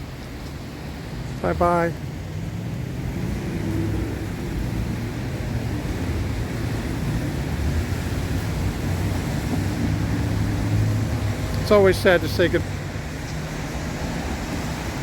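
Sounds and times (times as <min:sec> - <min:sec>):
traffic on wet street: 0:00.0 - 0:15.0.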